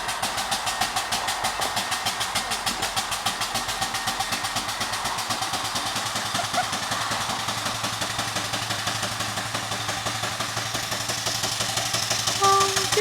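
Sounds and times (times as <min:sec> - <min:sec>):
steam engine exhaust chuffing: 0:00.0 - 0:13.0.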